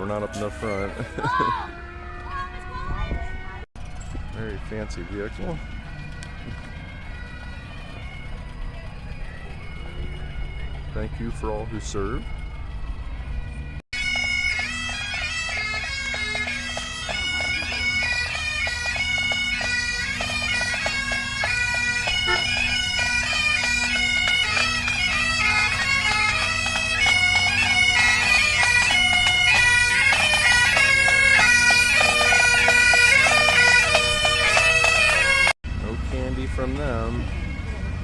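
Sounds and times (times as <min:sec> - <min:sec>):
bagpipes playing marching tune: 0:00.0 - 0:38.0.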